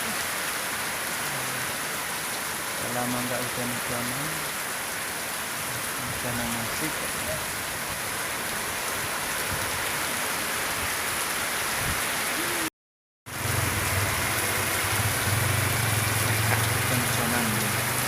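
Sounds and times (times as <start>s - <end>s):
steady rain falling: 0.0s - 12.7s, 13.3s - 18.0s.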